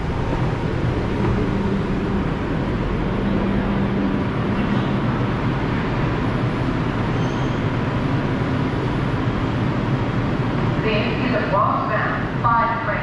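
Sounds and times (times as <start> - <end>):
subway car rumble: 0.0 - 13.0.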